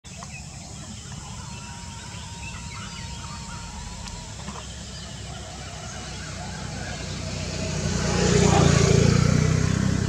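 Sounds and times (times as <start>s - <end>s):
bird calls: 0.1s - 8.8s.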